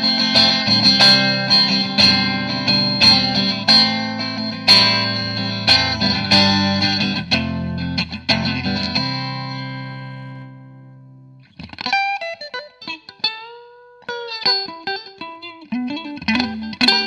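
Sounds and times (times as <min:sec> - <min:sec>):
electric guitar chords: 0:00.0 - 0:17.0
electric guitar single picked notes: 0:00.0 - 0:17.0.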